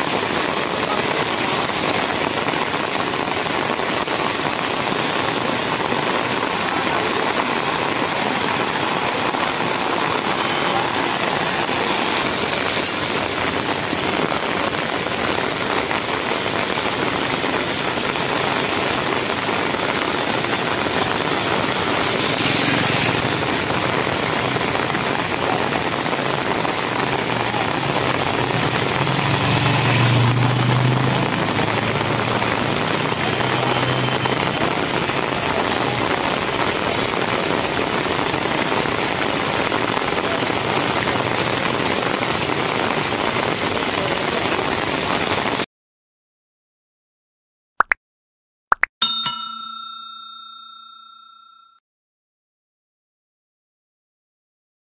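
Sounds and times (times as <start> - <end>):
heavy rain on pavement: 0.0 - 45.7.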